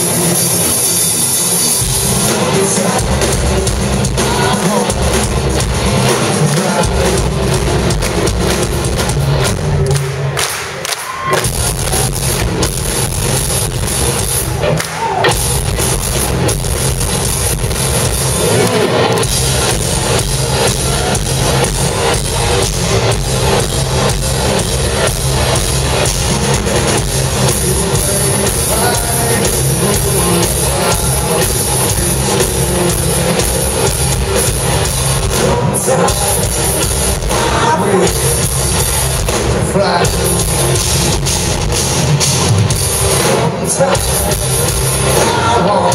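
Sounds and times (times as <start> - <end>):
hard rock band playing live: 0.0 - 45.9.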